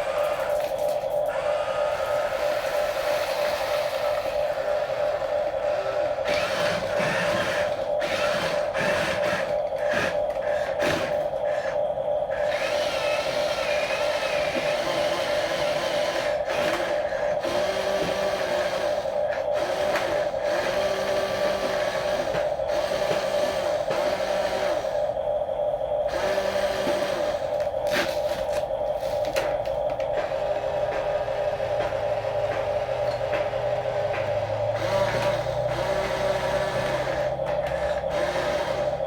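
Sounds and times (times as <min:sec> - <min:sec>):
toy electric motors whining: 0:00.0 - 0:25.2, 0:26.0 - 0:39.0.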